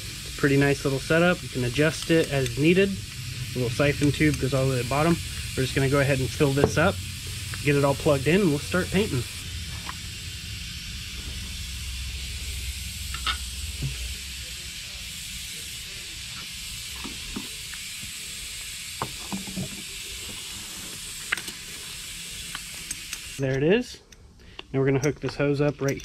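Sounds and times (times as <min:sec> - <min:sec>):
steady hiss: 0:00.0 - 0:23.9.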